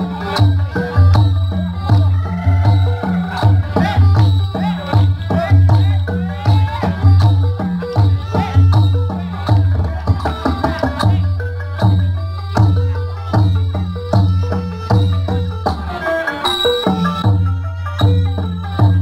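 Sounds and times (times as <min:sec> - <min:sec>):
drum beating steadily: 0:00.0 - 0:19.0
short pitched percussive notes: 0:00.0 - 0:19.0.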